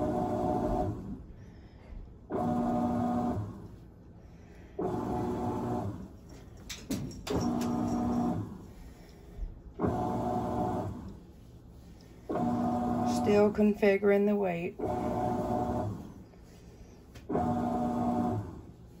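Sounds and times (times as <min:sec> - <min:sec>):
washing machine motor whine: 0:00.0 - 0:19.0.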